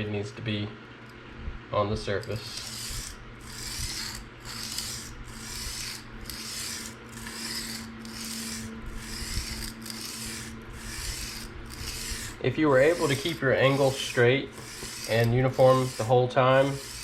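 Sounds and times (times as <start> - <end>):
knife scraping on sharpening stone: 2.2 - 16.1, 16.7 - 17.0.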